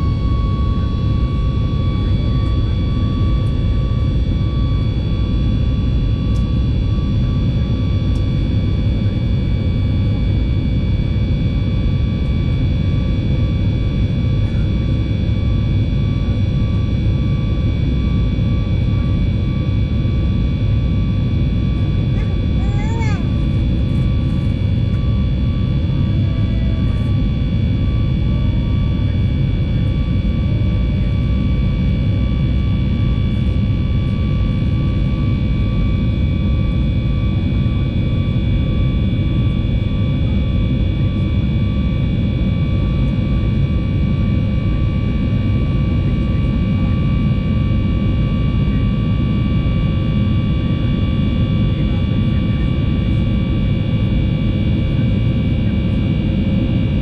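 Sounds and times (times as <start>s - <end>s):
jet engine roar in cabin: 0.0s - 57.0s.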